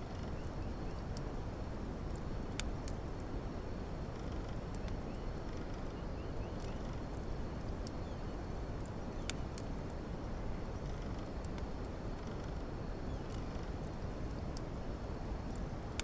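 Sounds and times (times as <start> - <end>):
fire crackles and pops: 0.0 - 16.0
fire flames rushing: 0.0 - 16.0.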